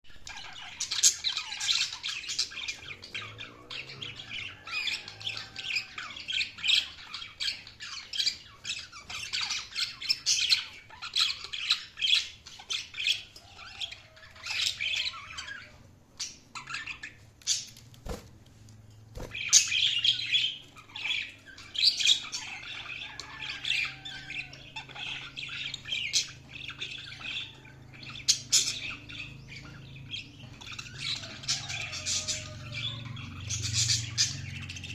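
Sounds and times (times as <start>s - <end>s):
budgerigars chirping and warbling: 0.1s - 18.2s, 19.2s - 34.9s.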